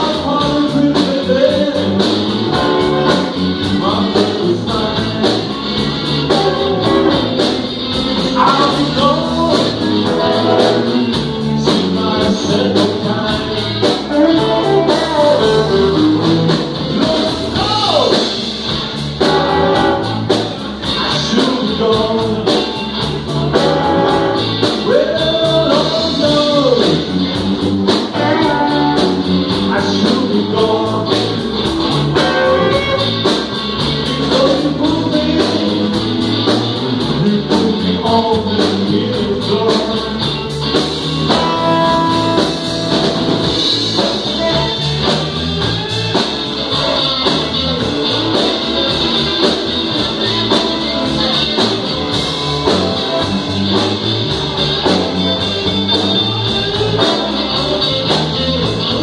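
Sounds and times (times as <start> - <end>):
electric guitar bending notes: 0.0 - 59.0
rock band playing: 0.0 - 59.0.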